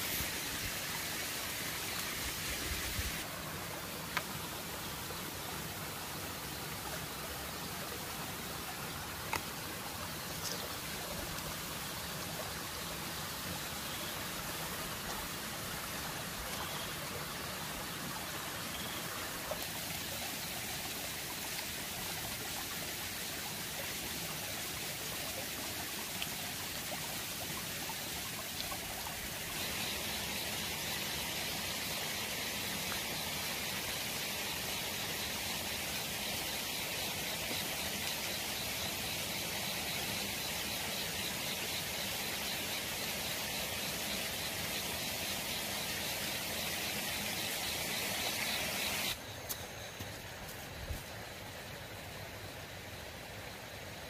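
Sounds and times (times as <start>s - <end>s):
stream trickling over rocks: 0.0s - 54.0s.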